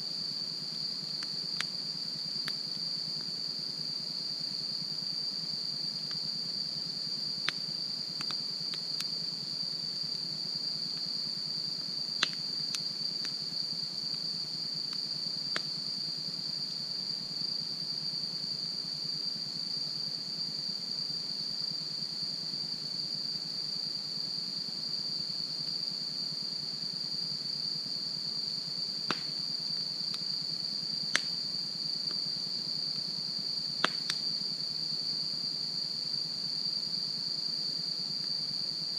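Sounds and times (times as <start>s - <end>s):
high insect chorus: 0.0s - 38.9s.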